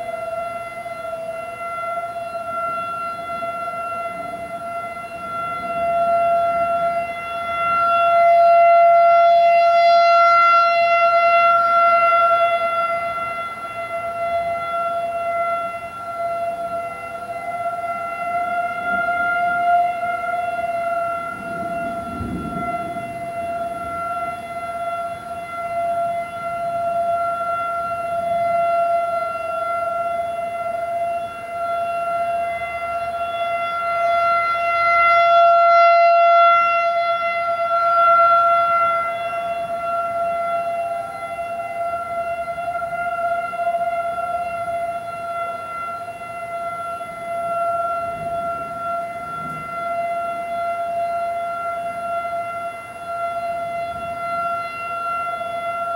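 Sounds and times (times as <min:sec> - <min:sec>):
warning siren steady high tone: 0:00.0 - 0:55.9.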